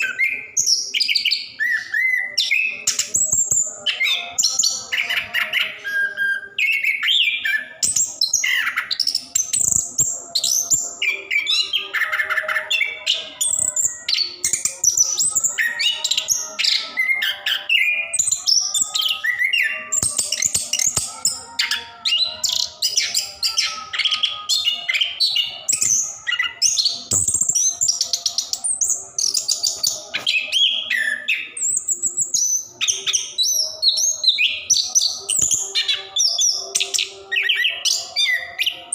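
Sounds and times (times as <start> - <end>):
thrush singing: 0.0 - 38.9.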